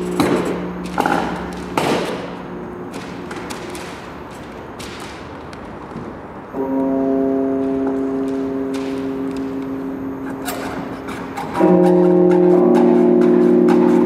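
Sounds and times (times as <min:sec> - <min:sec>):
steady electronic drone: 0:00.0 - 0:14.0.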